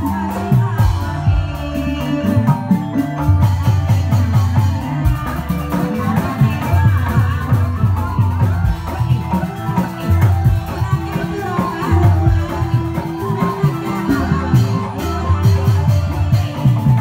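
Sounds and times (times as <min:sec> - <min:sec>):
wavering melody line: 0:00.0 - 0:17.0.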